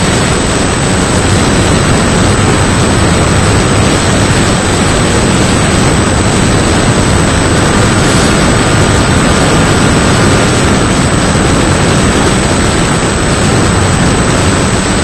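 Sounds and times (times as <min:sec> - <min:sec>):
electric motor and propeller: 0:00.0 - 0:15.0
thin steady whine: 0:00.0 - 0:15.0
wind noise: 0:00.0 - 0:15.0.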